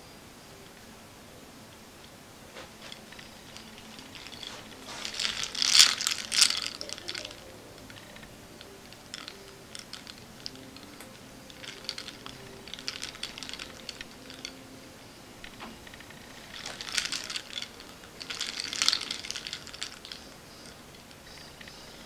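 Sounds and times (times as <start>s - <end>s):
small hard objects clicking: 1.7s - 22.0s.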